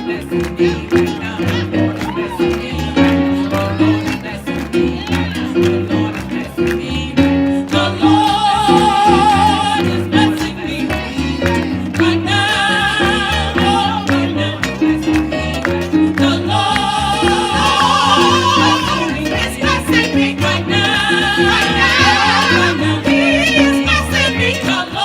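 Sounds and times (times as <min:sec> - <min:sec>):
bass line and beat: 0:00.0 - 0:25.0
gospel group singing: 0:00.0 - 0:25.0.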